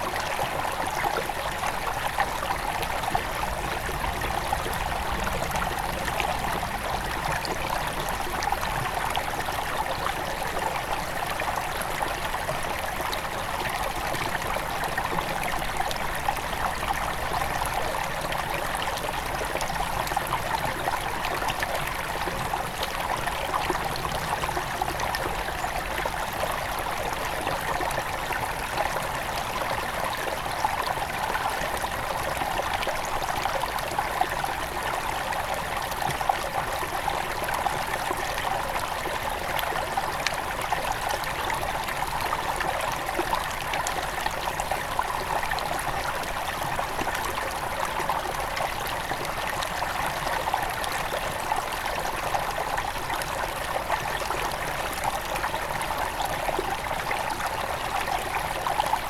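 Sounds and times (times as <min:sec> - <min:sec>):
river running water: 0:00.0 - 0:59.0.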